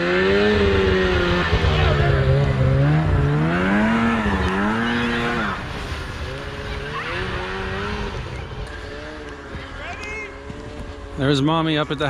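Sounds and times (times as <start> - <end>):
snowmobile engine: 0.0 - 12.0.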